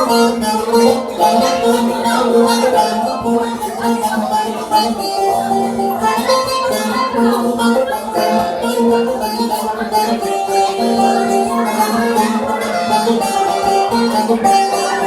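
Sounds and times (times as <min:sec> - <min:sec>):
plucked lute melody: 0:00.0 - 0:15.0.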